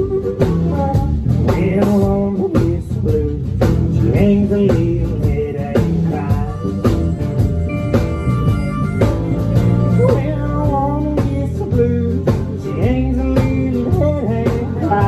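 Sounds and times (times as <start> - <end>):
country band playing live: 0.0 - 15.0.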